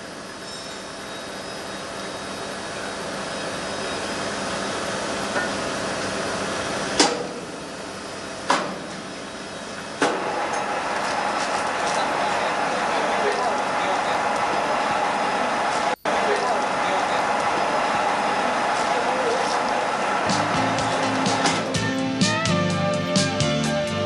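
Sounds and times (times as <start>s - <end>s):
rushing machine noise: 0.0s - 22.0s.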